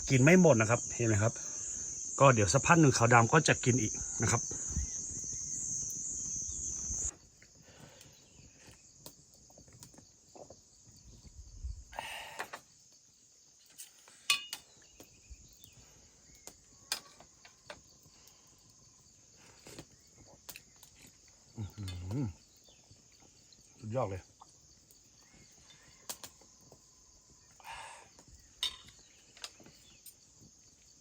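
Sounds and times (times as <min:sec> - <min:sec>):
insect chirring: 0:00.0 - 0:31.0.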